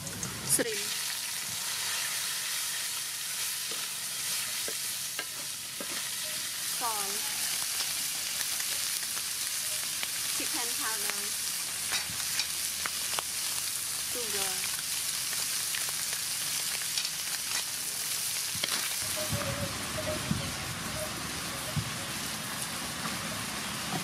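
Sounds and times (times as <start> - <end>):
shrimp sizzling in a wok: 0.0 - 24.0.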